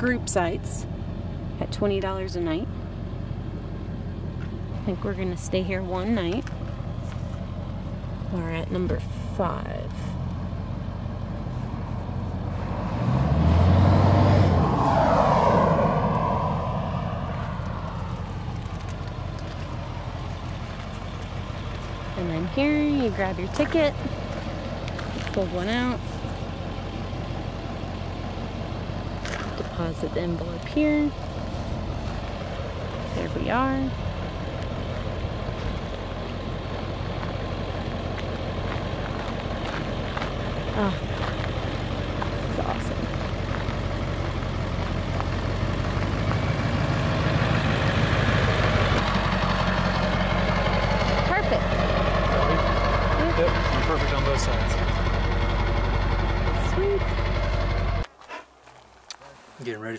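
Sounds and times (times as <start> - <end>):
road vehicle driving past: 0.0 - 59.1
truck engine idling: 0.0 - 59.7.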